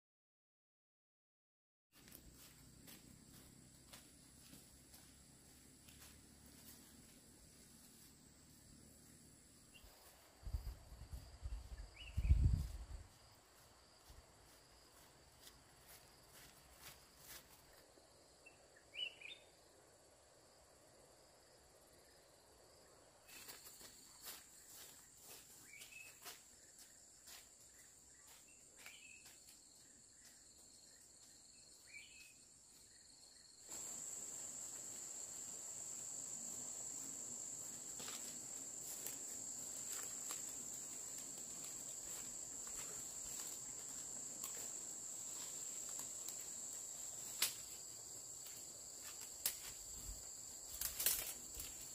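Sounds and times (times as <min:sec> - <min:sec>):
insects droning whine: 0:02.0 - 0:51.9.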